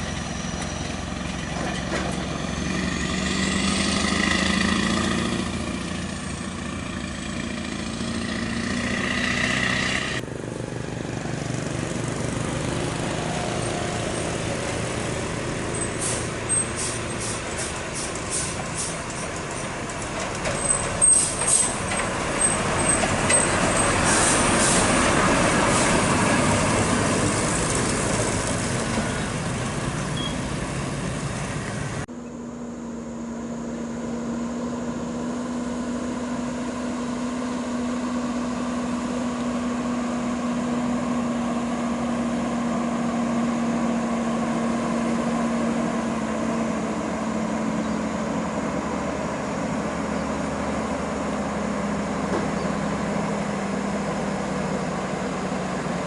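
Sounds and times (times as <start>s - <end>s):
engine drone: 0.0s - 56.0s
truck engine and tyre noise: 0.0s - 56.0s.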